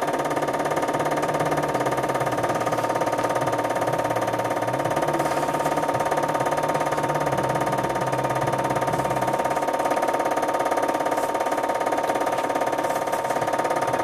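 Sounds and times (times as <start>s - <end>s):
fluttering machine hum: 0.0s - 14.0s.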